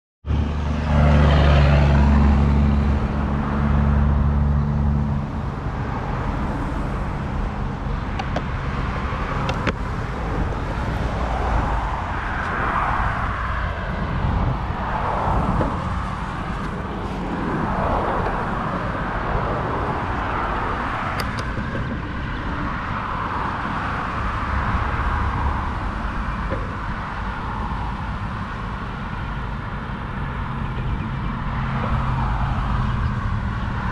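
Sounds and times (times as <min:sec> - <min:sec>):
cars passing: 0:00.2 - 0:33.9
wind on microphone: 0:05.0 - 0:33.9.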